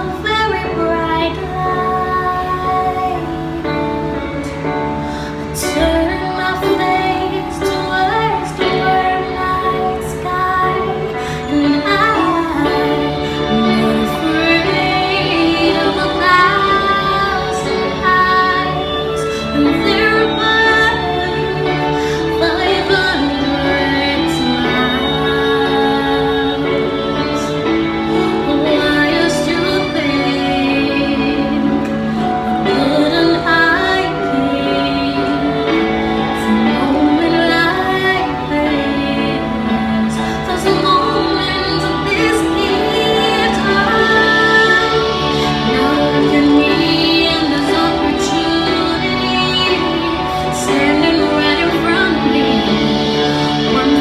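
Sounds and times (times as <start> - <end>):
instrumental backing music: 0.0 - 54.0
woman singing gospel: 0.0 - 54.0.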